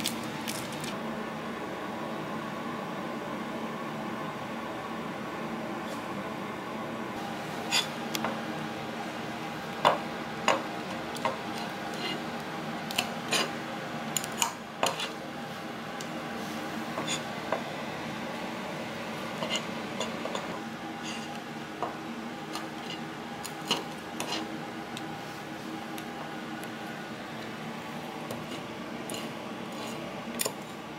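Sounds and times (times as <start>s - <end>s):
steady background hum: 0.0s - 30.9s.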